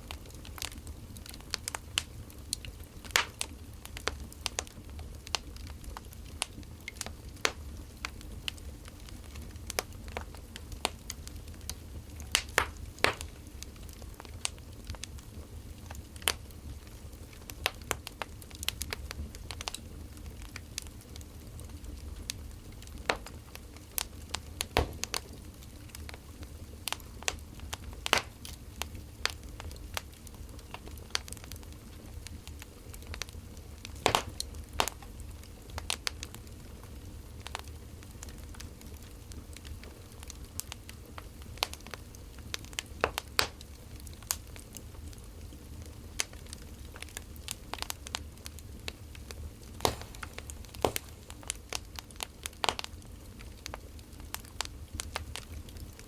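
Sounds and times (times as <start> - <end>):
firewood crackling: 0.0 - 56.0.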